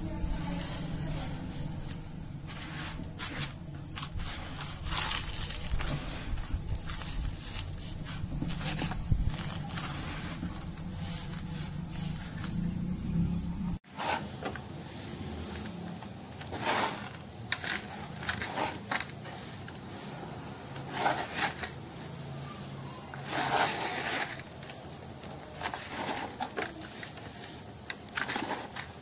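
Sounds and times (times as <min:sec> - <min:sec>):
sand crumbling and rustling: 0:00.0 - 0:29.0
sand scraping against bowl: 0:00.0 - 0:29.0.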